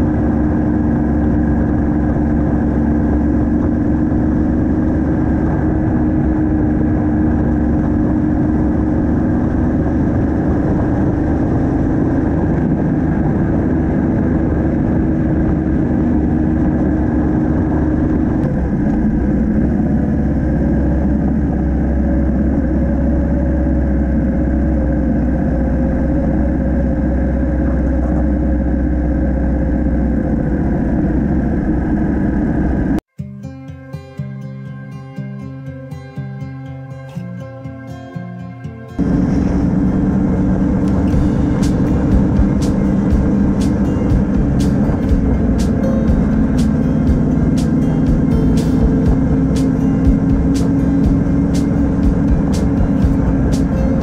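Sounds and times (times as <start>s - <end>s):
motorcycle engine running: 0.0s - 33.0s, 39.0s - 54.0s.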